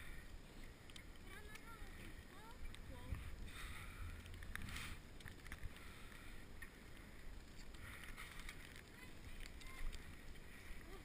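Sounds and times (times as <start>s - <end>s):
bike tyres hissing through snow: 0.0s - 11.0s
faint clicks: 0.2s - 3.1s, 3.7s - 11.0s.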